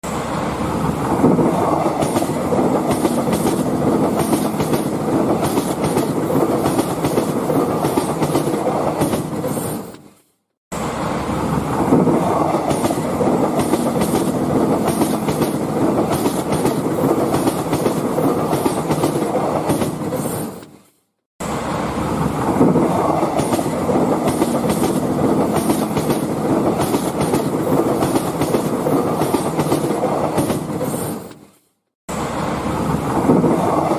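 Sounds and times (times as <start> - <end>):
railway cars rumbling: 0.0 - 10.0, 10.7 - 20.7, 21.4 - 31.4, 32.1 - 33.9.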